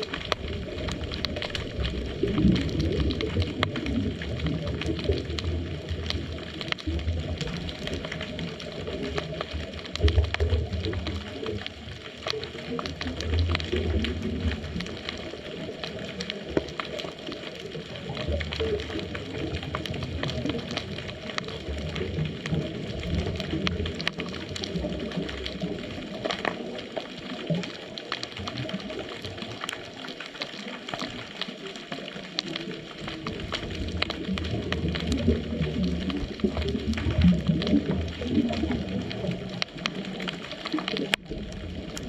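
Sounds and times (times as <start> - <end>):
muffled underwater rumble: 0.0 - 42.0
sharp underwater clicks: 0.0 - 42.0.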